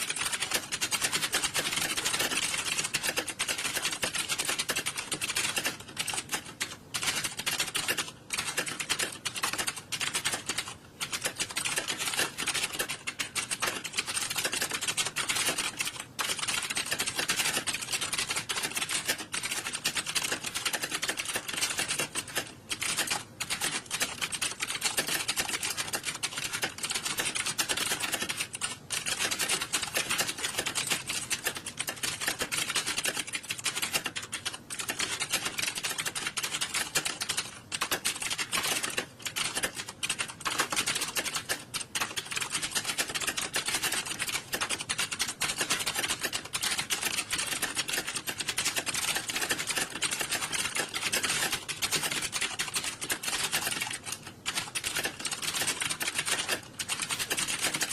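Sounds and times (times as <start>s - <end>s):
keyboard typing clatter: 0.0s - 57.9s.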